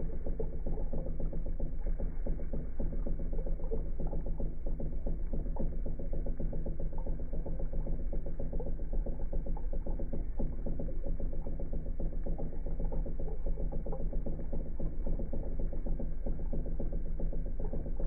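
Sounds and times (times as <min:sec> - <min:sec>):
aquarium equipment humming: 0:00.0 - 0:18.0.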